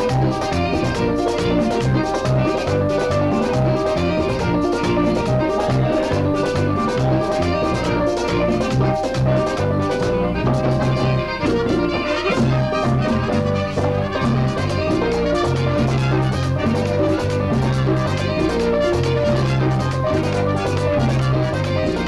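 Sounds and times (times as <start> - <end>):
bass line: 0.0 - 22.0
live band playing: 0.0 - 22.0.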